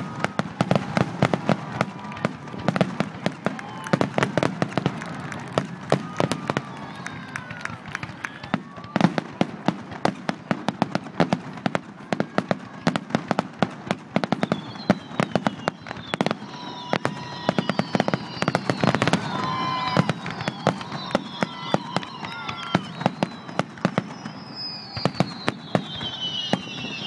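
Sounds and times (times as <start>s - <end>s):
fireworks bangs and crackles: 0.0s - 27.0s
high whistling fireworks: 0.0s - 27.0s.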